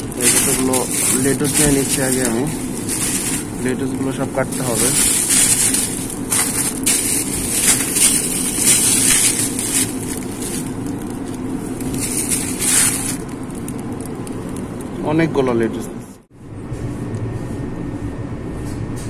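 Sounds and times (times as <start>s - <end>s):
plastic wrap crinkling: 0.0s - 15.5s
steady hum: 0.0s - 19.0s.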